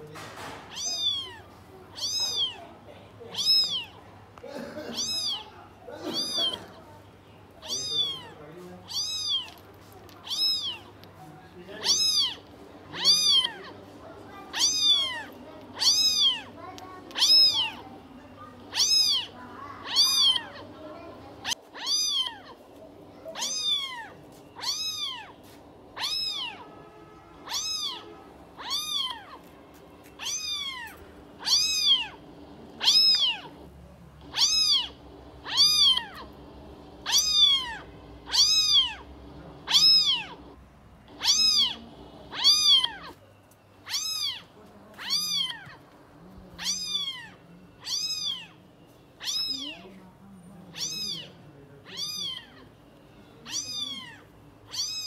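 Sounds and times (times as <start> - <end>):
kitten meowing: 0.6 - 4.0, 4.9 - 6.8, 7.6 - 11.0, 11.6 - 13.8, 14.5 - 16.5, 17.1 - 18.0, 18.7 - 20.8, 21.4 - 22.6, 23.2 - 26.8, 27.4 - 29.5, 30.1 - 43.2, 43.8 - 45.8, 46.4 - 48.6, 49.2 - 50.0, 50.7 - 52.7, 53.4 - 55.0.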